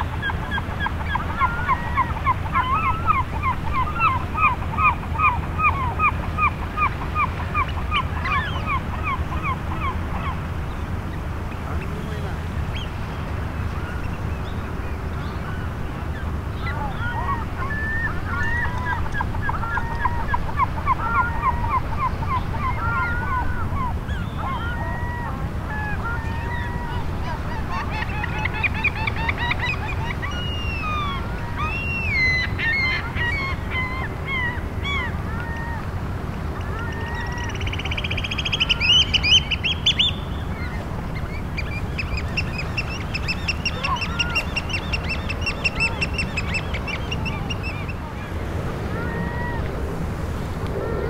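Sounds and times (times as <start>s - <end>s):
birds piping calls: 0.0s - 51.0s.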